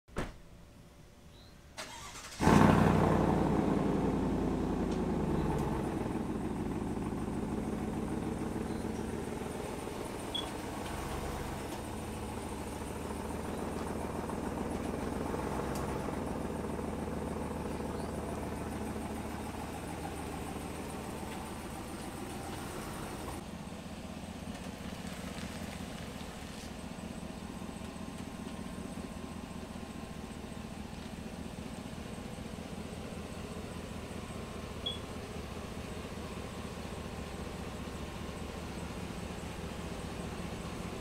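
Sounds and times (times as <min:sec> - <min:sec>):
pickup truck engine starting: 0:01.8 - 0:41.0.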